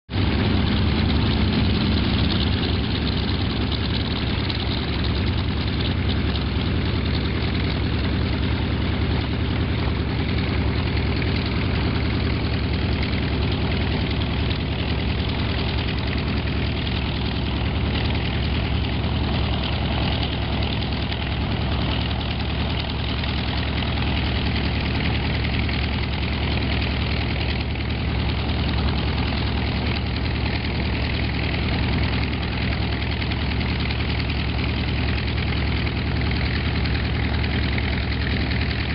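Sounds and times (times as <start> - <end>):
piston aircraft engines rumbling: 0.1 - 38.9.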